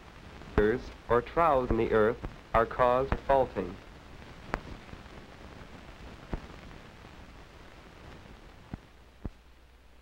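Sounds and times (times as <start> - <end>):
film soundtrack hiss: 0.0 - 10.0.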